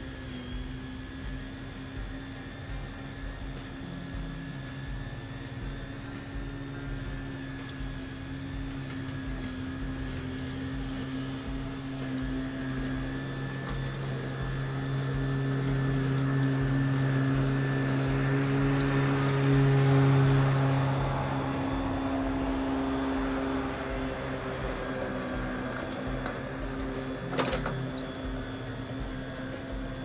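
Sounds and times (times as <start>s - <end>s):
electric lawn mower cutting grass: 0.0s - 30.0s.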